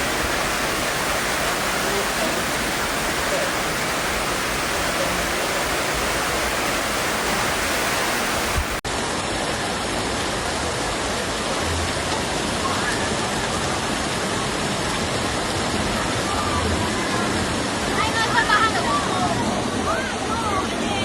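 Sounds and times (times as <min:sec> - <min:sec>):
floodwater rushing down a street: 0:00.0 - 0:21.0
heavy rain: 0:00.0 - 0:21.0.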